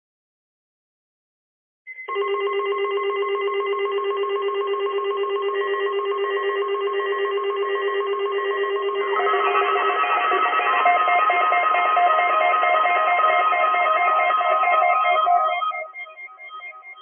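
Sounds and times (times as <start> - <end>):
warbling electronic tone: 2.0 - 17.0.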